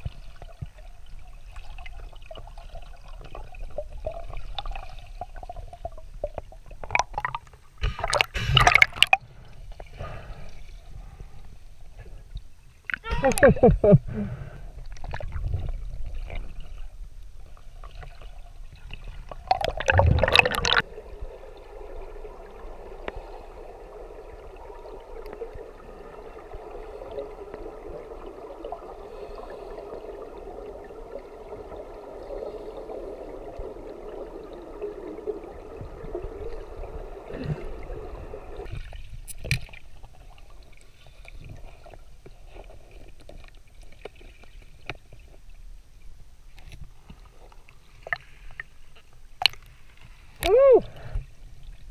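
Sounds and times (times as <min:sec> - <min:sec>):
underwater water rush: 0:00.0 - 0:12.2, 0:13.2 - 0:45.0.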